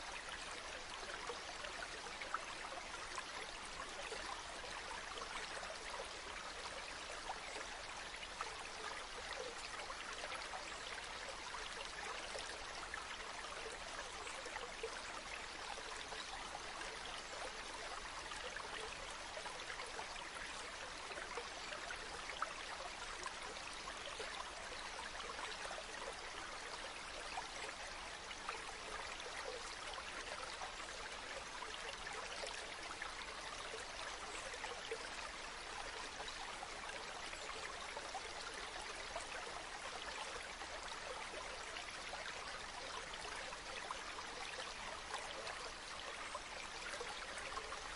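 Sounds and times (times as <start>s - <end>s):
stream babbling: 0.0s - 47.9s.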